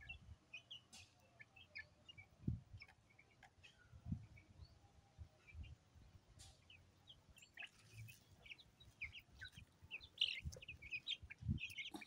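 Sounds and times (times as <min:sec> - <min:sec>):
chicks peeping: 0:00.0 - 0:04.6, 0:05.3 - 0:12.0.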